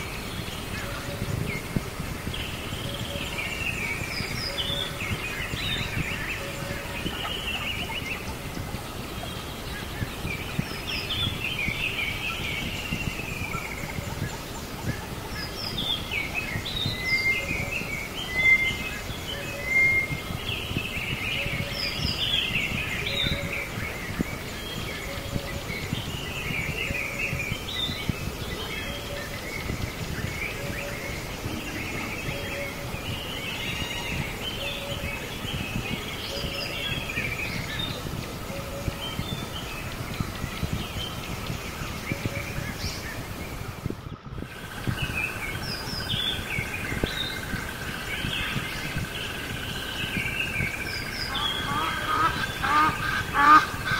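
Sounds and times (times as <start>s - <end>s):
birds chirping and trilling: 0.0s - 53.9s
outdoor background noise: 0.0s - 53.9s.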